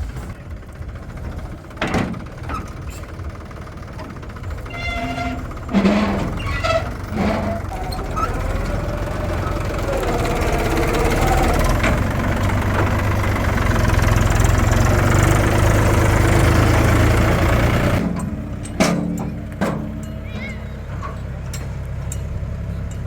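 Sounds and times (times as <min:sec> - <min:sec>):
heavy machine diesel engine: 0:00.0 - 0:23.0.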